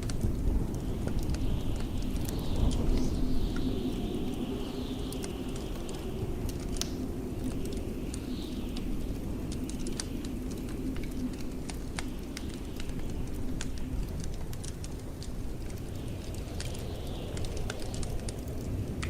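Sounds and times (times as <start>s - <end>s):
steady low rumble: 0.0s - 19.0s
wind howling and whistling: 0.0s - 19.0s
wood fire crackling: 0.0s - 19.0s.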